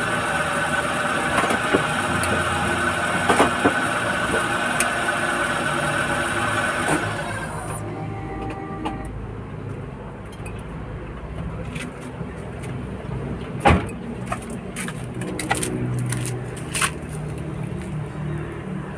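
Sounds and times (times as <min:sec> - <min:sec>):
car running with low hum: 0:00.0 - 0:18.9.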